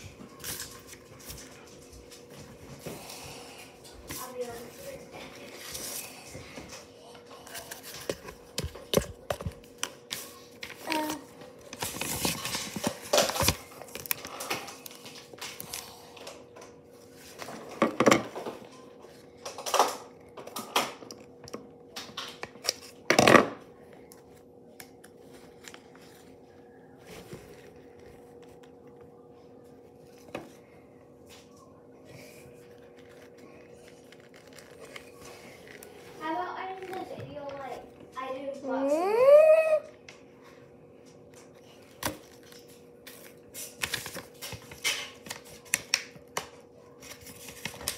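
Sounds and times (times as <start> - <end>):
paper rustling and crinkling: 0.0 - 20.7, 24.1 - 37.8, 41.2 - 47.9.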